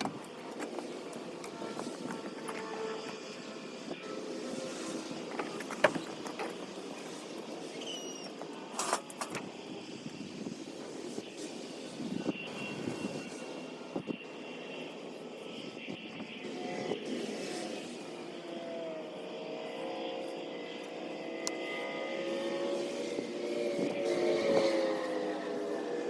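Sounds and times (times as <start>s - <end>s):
propeller airplane engine drone: 0.0s - 26.0s.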